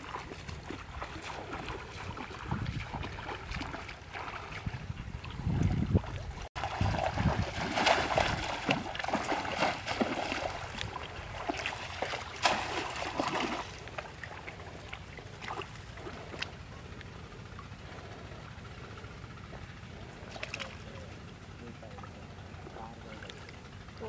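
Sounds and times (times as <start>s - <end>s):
stream water splashing: 0.0s - 18.2s, 19.4s - 24.0s.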